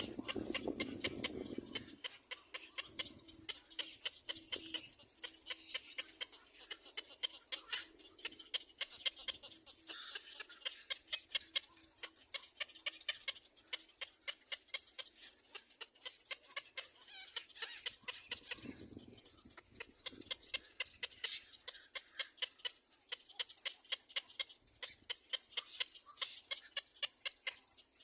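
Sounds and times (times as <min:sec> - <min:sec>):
baby bird chirping: 0:00.0 - 0:28.0.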